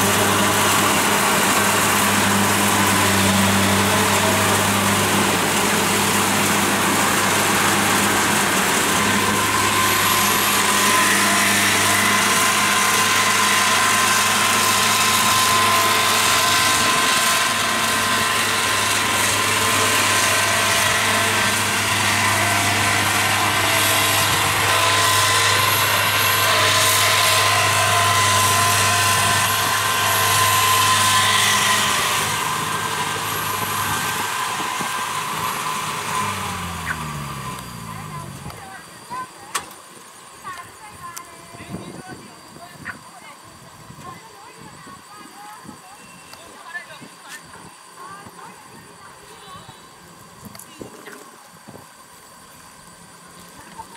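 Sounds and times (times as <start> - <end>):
combine harvester running: 0.0 - 53.9
high machinery whine: 0.0 - 53.9.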